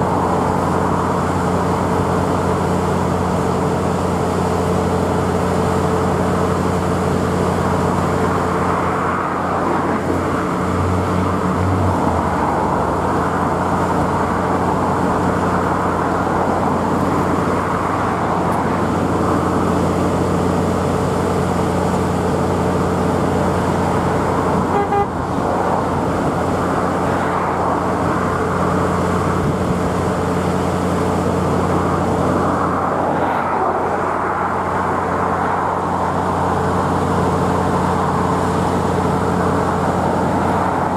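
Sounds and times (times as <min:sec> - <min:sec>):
diesel locomotive engine drone: 0:00.0 - 0:40.9.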